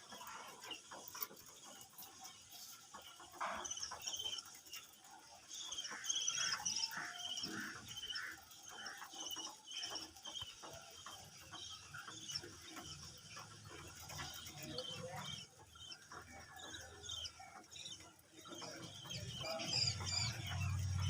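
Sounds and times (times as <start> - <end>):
budgerigars chirping: 0.1 - 21.0.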